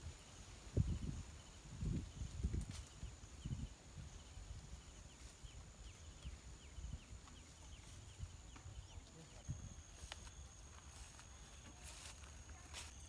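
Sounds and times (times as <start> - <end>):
tree branches rustling: 0.0 - 13.0.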